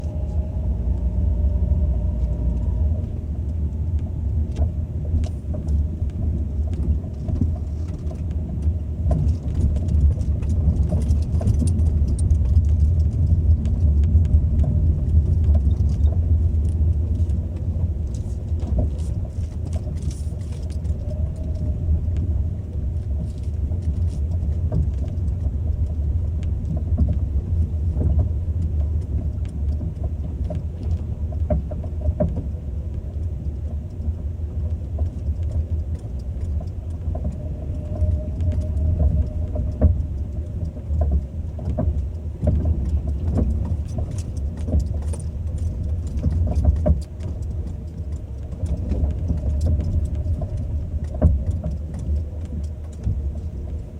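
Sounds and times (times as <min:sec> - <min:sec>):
car road rumble: 0:00.0 - 0:53.9
car knocks and rattles: 0:01.4 - 0:53.9.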